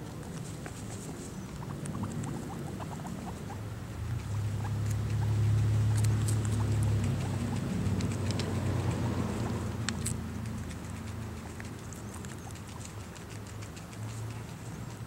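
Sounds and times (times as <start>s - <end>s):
guinea pig chirps: 0.0s - 15.0s
guinea pigs crunching cucumber: 0.0s - 15.0s
steady low hum: 0.0s - 15.0s.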